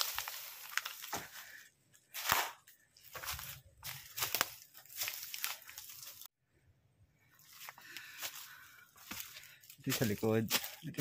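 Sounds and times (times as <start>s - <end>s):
footsteps crunching through brush: 0.0s - 6.3s, 7.4s - 11.0s.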